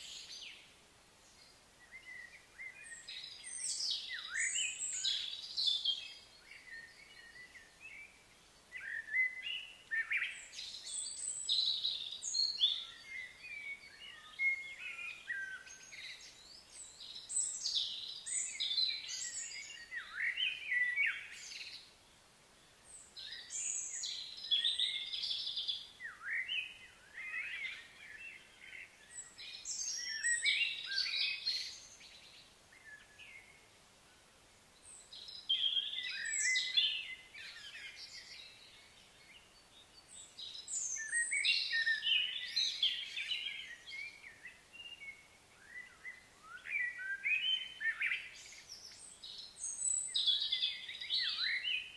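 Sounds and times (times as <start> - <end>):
birds singing and chirping: 1.3 - 21.9, 22.6 - 33.7, 34.8 - 51.9.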